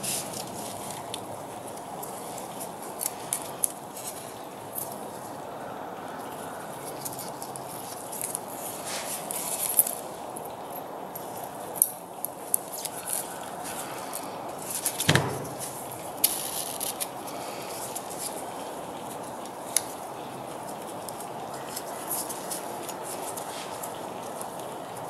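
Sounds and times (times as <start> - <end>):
clicks and rustles of gloved hands: 0.0 - 5.2, 6.3 - 10.6, 11.2 - 25.0
steady background noise: 0.0 - 25.0.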